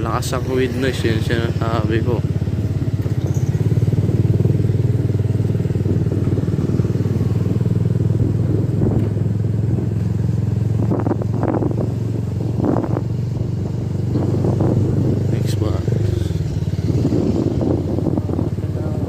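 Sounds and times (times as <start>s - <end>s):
motorcycle exhaust pulsing: 0.0s - 19.0s
wind noise on microphone: 2.9s - 19.0s.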